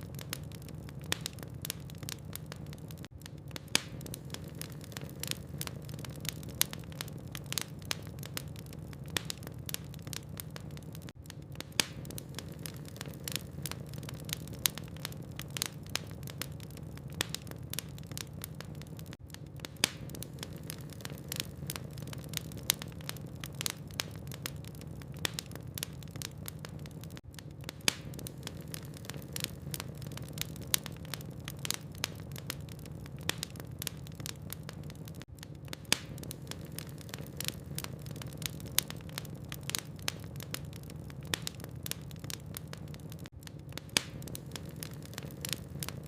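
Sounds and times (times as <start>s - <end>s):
log fire crackling: 0.0s - 46.0s.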